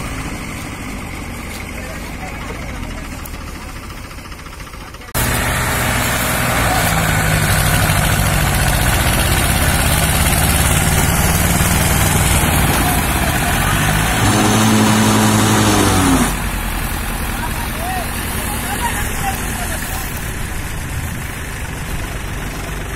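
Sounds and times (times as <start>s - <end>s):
tractor diesel engines under load: 0.0s - 22.9s.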